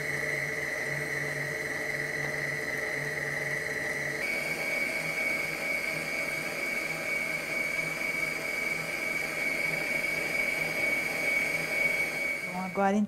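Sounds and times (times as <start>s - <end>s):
stand mixer motor whine: 0.0s - 13.0s.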